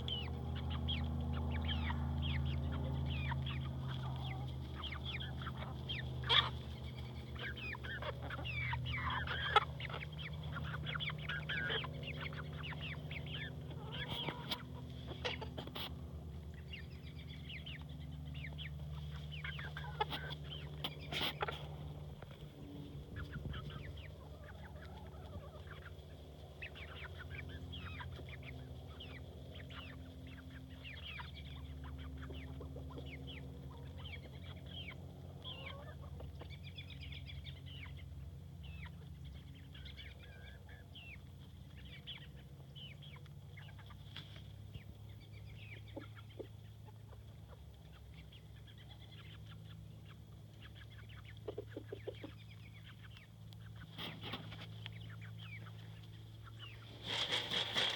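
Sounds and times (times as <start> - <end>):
chickens calling: 0.0 - 57.9
steady low hum: 0.0 - 57.9.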